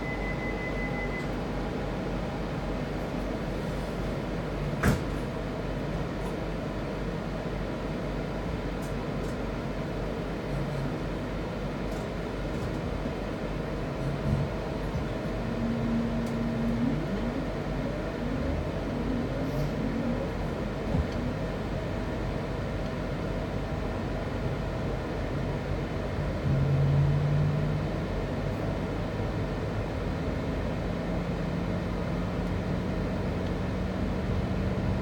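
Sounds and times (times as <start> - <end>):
train rumbling in motion: 0.0 - 35.0.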